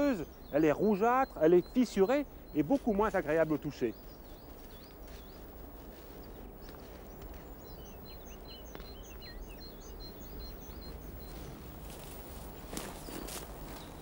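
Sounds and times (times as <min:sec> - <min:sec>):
low background noise: 0:00.0 - 0:14.0
songbirds chirping: 0:00.0 - 0:14.0.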